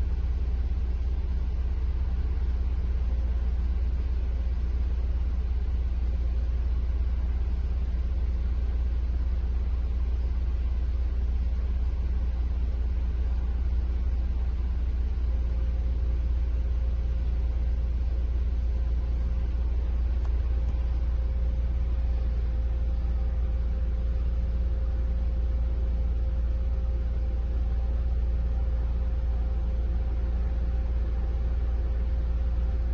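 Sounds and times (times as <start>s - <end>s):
car engine idling: 0.0s - 32.9s
faint steady whine: 0.0s - 32.9s.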